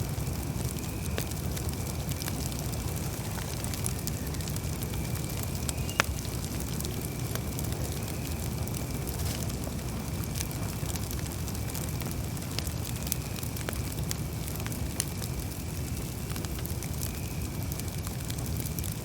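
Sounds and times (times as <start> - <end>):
campfire crackling: 0.0 - 19.0
low rumble of flames: 0.0 - 19.0.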